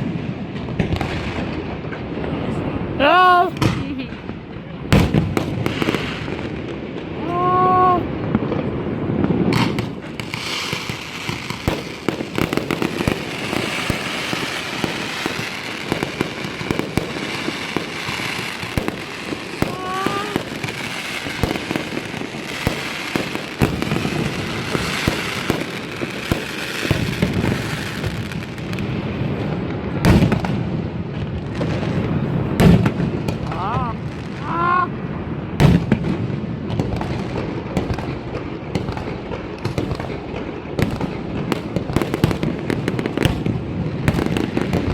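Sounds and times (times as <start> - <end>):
fireworks crackling and popping: 0.0 - 44.9.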